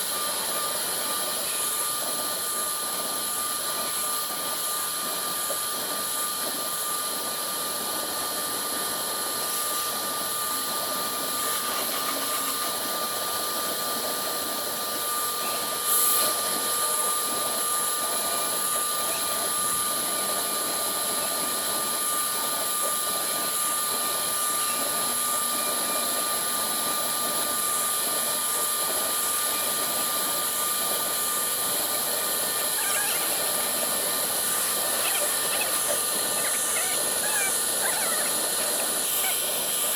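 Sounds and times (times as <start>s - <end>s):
cnc router spindle whine: 0.0s - 39.9s
hiss of cutting: 0.0s - 39.9s.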